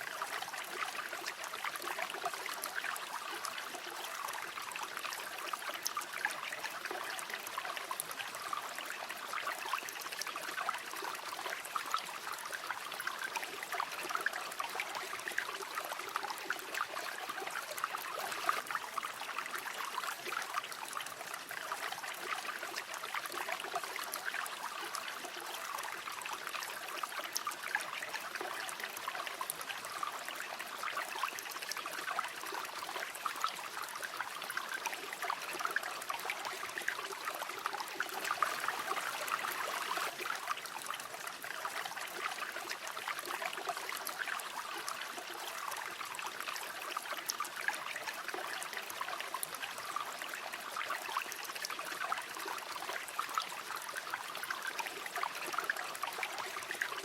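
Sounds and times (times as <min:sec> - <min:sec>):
river water burbling over stones: 0:00.0 - 0:57.0.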